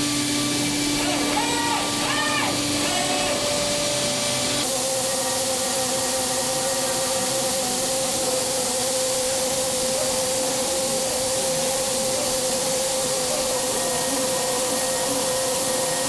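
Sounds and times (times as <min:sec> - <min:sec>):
coolant spraying hiss: 0:00.0 - 0:16.0.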